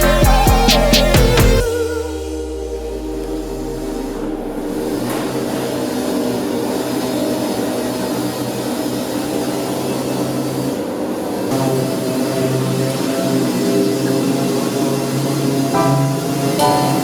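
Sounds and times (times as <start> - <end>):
machine drone with rushing noise: 0.0 - 17.0.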